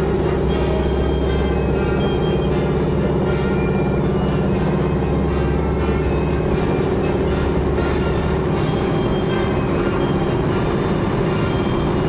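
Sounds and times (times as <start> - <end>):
radial aircraft engine droning: 0.0 - 12.0.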